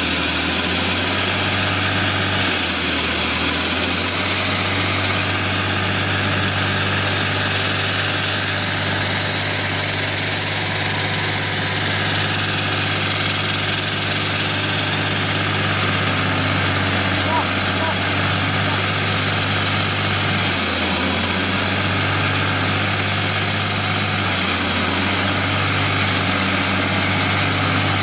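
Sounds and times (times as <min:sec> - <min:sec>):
diesel floor saw running: 0:00.0 - 0:28.0.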